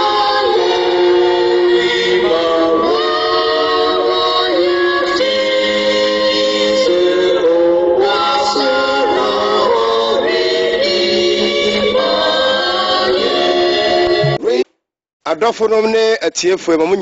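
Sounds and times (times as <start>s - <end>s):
choir singing a hymn a cappella: 0.0s - 14.4s.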